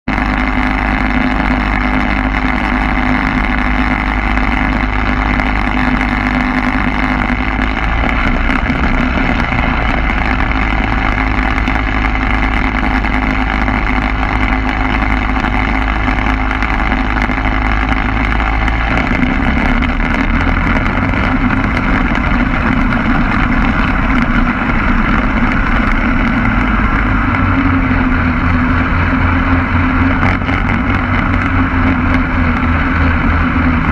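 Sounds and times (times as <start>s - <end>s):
light aircraft engine running: 0.1s - 33.9s.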